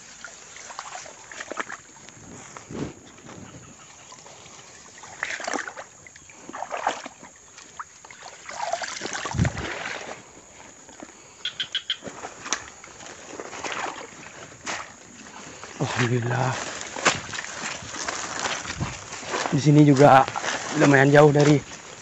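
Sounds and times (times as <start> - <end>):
footsteps through undergrowth: 0.0 - 22.0.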